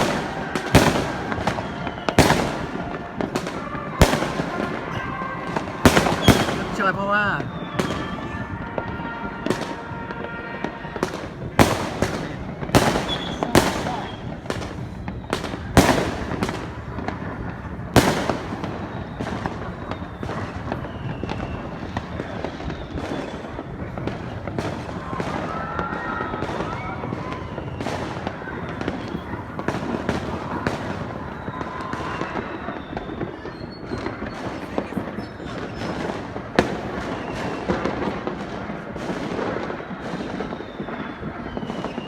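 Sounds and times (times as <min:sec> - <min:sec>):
crackle of distant firework bursts: 0:00.0 - 0:42.0
loud firework bangs: 0:00.0 - 0:42.0.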